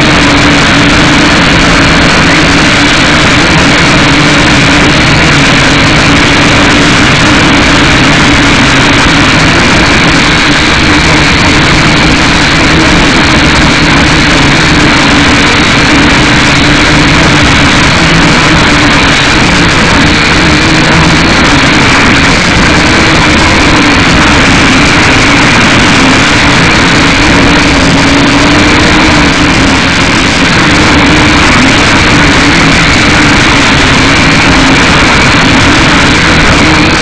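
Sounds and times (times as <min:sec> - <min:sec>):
quadcopter motors buzzing: 0:00.0 - 0:37.0.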